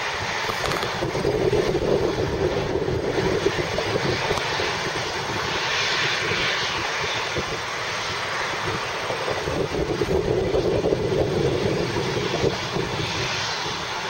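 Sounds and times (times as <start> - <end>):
jet engine rushing rumble: 0.0 - 14.0.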